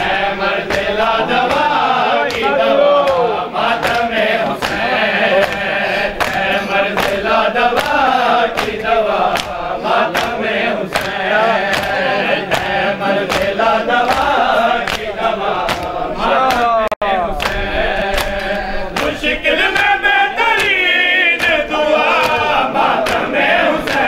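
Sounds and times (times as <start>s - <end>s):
men chanting in chorus: 0.0s - 24.0s.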